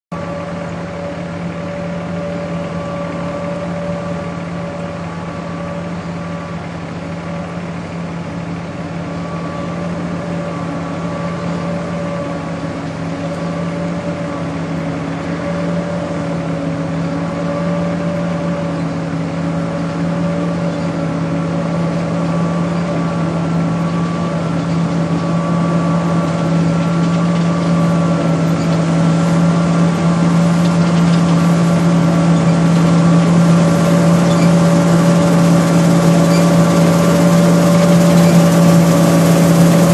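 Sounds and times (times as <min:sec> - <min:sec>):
combine harvester drone: 0:00.1 - 0:39.9.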